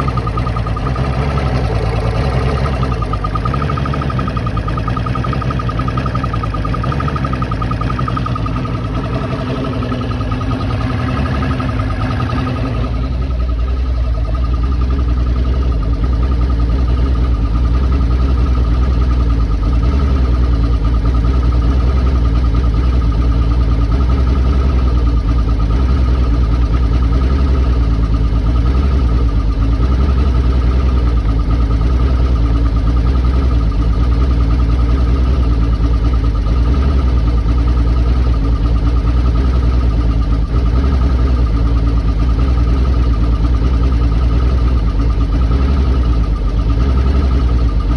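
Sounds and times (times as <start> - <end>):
outboard motor idling roughly: 0.0 - 47.9.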